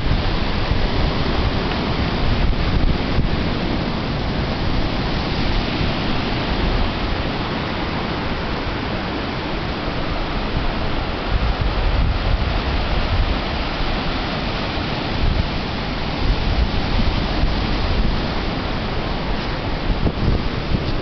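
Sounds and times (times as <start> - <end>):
surf breaking on beach: 0.0 - 21.0
wind on microphone: 0.0 - 21.0.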